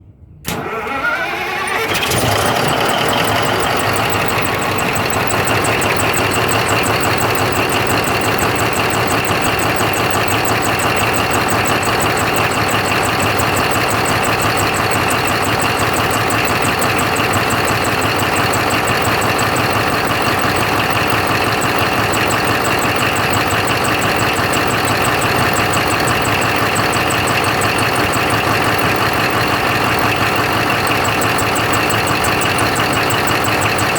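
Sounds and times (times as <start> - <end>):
diesel engine running: 0.4 - 33.9
fast engine ticking: 0.5 - 33.9.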